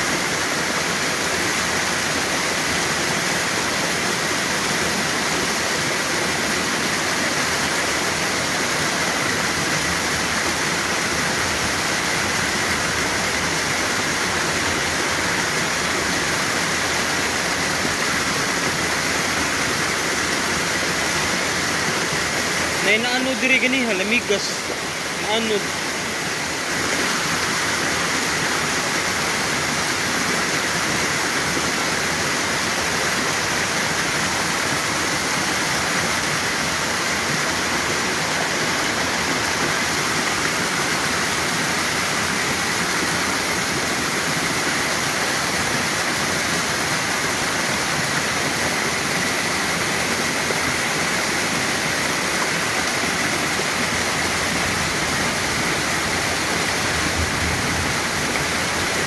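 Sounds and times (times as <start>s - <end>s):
floodwater rushing down creek: 0.0s - 59.0s.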